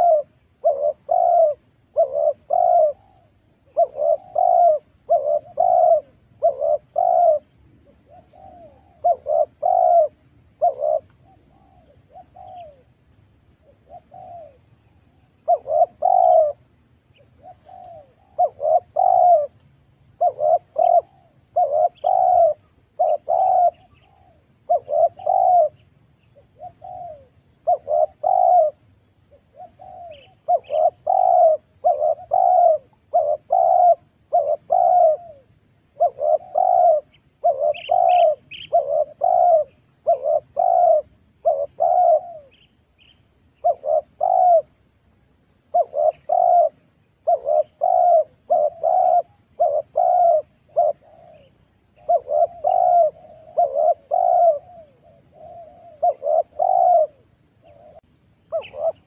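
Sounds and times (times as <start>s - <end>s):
dove cooing: 0.0s - 13.0s, 13.6s - 44.9s, 45.5s - 59.0s.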